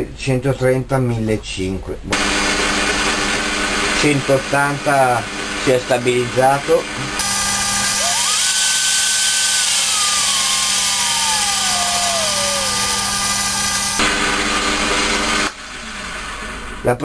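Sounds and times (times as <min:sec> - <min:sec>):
drill press motor whining: 0:02.2 - 0:16.8.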